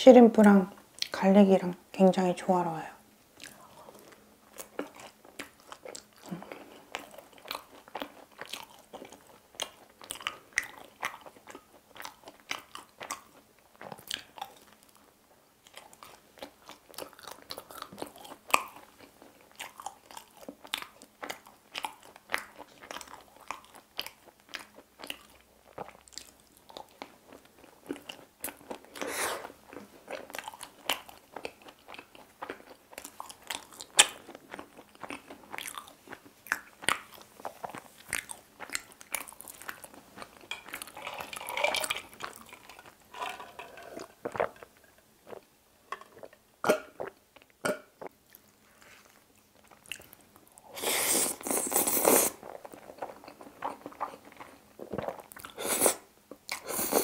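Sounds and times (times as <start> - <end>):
crunchy chewing of pizza crust: 3.4 - 45.5, 47.0 - 57.0.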